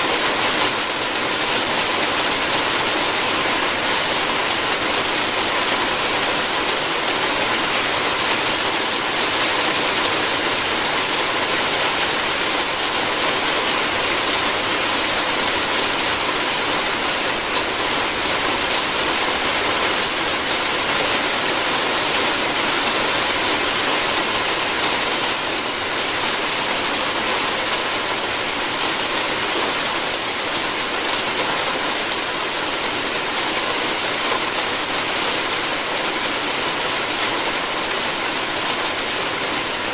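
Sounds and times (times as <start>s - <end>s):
heavy rain drumming on a roof: 0.0s - 39.9s.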